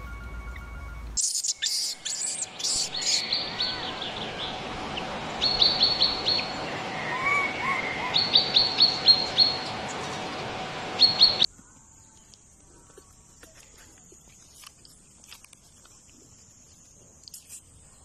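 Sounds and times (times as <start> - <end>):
steady background hum: 0.0 - 16.9.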